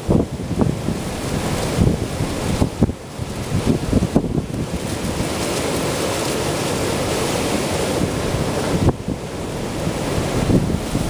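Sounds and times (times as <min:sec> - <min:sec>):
waves breaking: 0:00.0 - 0:11.0
wind buffeting microphone: 0:00.0 - 0:11.0.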